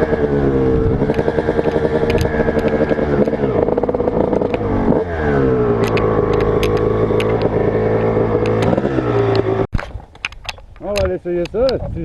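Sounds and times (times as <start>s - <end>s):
motocross bike engine: 0.0s - 9.7s
sharp clicks and rattles: 1.0s - 5.0s, 5.7s - 12.0s.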